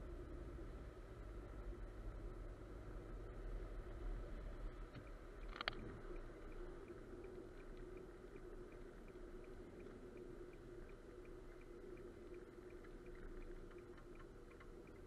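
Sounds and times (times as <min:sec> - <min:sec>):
car tyre and engine rumble: 0:00.0 - 0:15.0
faint regular ticking: 0:02.3 - 0:15.0.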